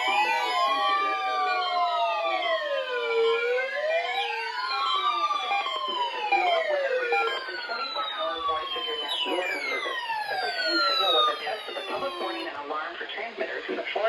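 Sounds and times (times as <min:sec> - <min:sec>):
siren wails: 0:00.0 - 0:12.6.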